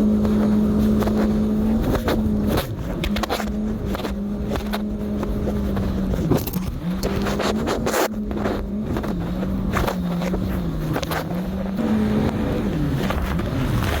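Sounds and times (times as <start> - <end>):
jet ski engine droning: 0.0 - 14.0
wind noise: 0.0 - 14.0.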